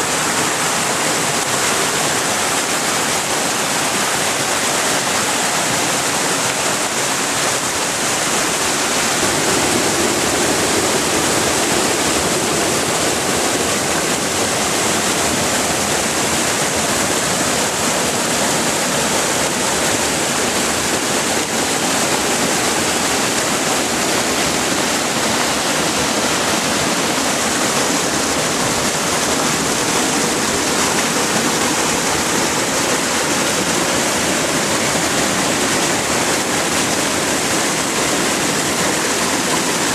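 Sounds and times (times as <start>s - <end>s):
floodwater rushing in creek: 0.0s - 39.9s.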